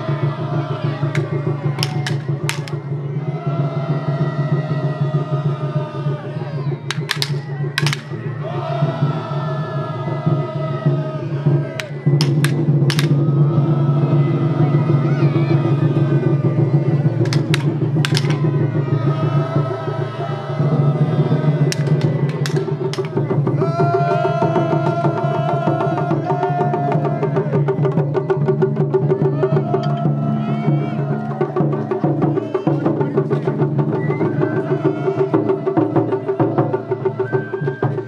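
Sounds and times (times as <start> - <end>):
bamboo flute melody: 0.0 - 38.0
rapid taiko drumming: 0.0 - 38.0.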